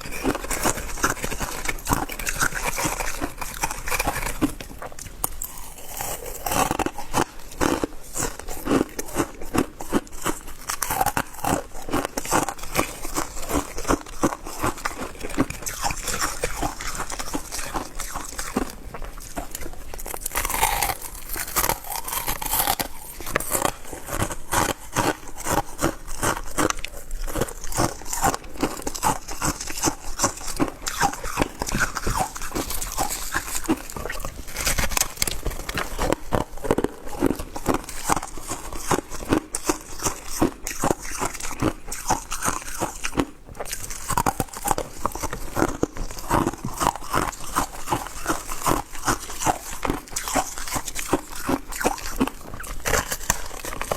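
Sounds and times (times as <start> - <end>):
chewing crunchy shaved ice: 0.0 - 53.9.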